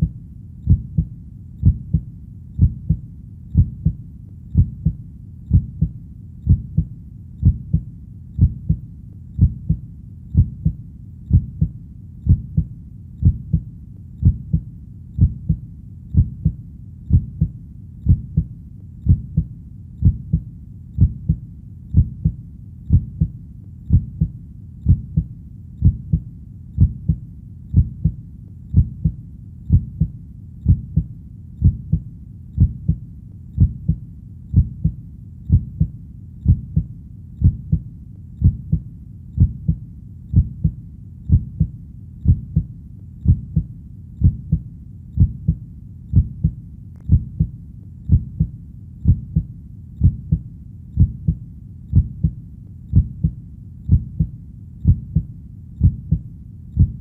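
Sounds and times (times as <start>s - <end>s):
heartbeat thumps: 0.0s - 33.0s, 33.6s - 57.0s
faint low rumble: 0.0s - 57.0s.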